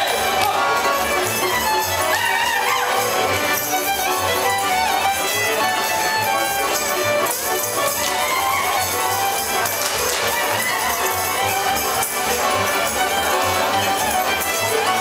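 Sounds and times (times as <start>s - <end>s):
folk dance music with fiddle: 0.0s - 15.0s.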